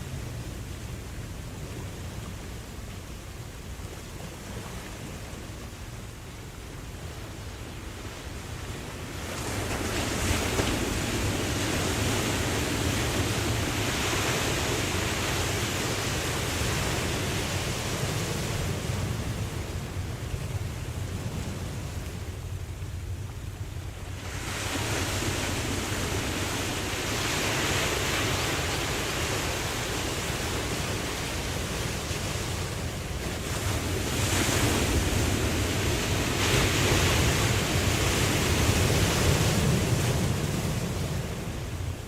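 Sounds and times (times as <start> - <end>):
low wind rumble: 0.0 - 42.0
ocean waves washing in: 0.0 - 42.0.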